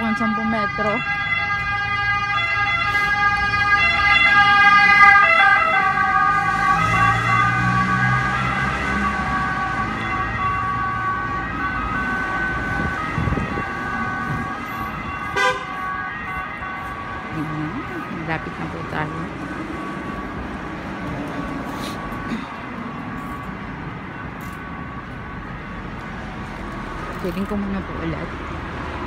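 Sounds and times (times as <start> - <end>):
emergency vehicle siren: 0.0 - 29.0
street traffic: 0.0 - 29.0
vehicle rumbling past: 1.0 - 29.0.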